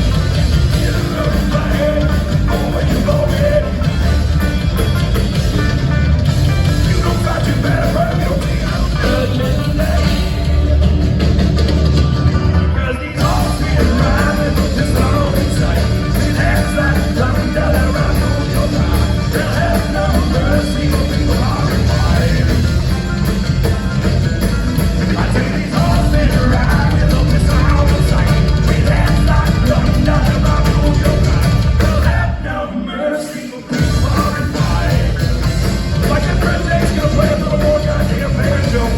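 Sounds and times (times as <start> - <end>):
live metal rock band: 0.0 - 38.9.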